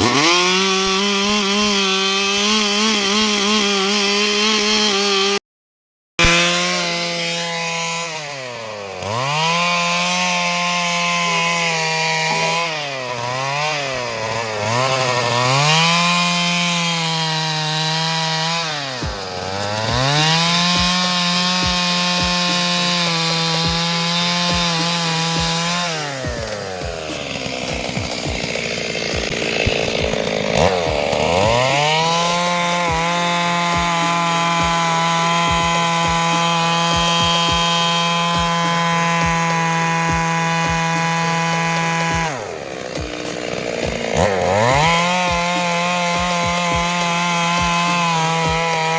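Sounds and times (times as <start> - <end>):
chainsaw cutting wood: 0.0 - 5.4, 6.2 - 48.9.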